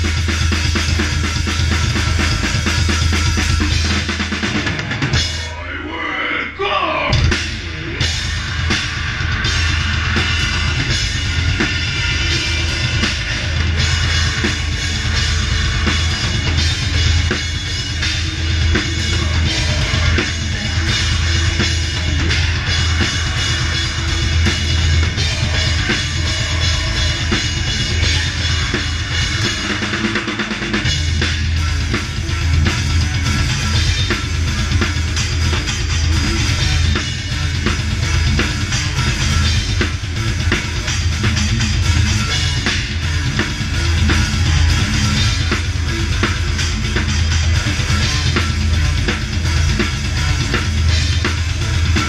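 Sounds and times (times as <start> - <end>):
metal band playing live: 0.0 - 52.0.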